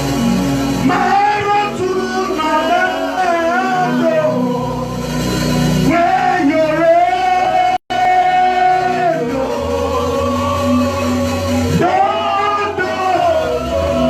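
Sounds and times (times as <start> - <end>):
instrumental backing with bass: 0.0 - 14.0.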